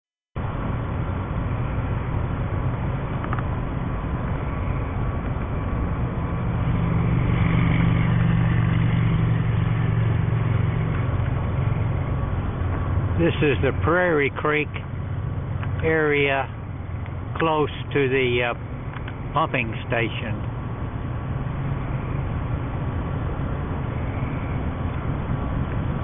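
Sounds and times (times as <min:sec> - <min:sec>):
constant rushing noise: 0:00.4 - 0:26.0
engine humming: 0:00.4 - 0:26.0.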